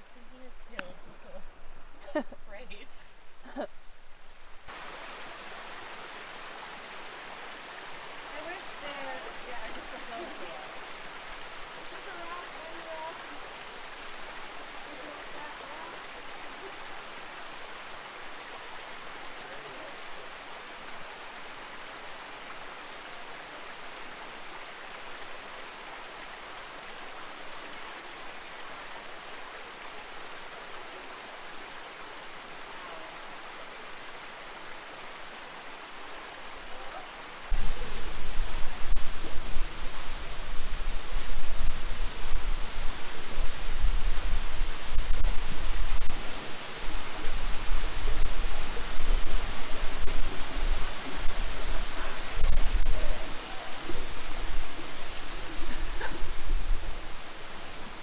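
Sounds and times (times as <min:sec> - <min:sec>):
creek and waterfall rushing: 0:00.0 - 0:58.0.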